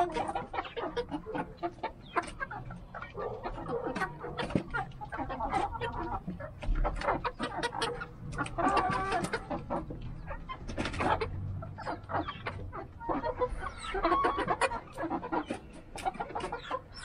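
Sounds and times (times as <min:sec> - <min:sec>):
chickens clucking: 0:00.0 - 0:17.0
chickens pecking clicks: 0:00.0 - 0:17.0.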